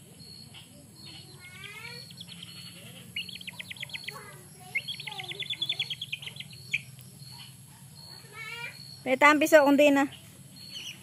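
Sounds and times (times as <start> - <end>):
small birds chattering trills: 0.0 - 11.0
falling bird chirps: 0.1 - 11.0.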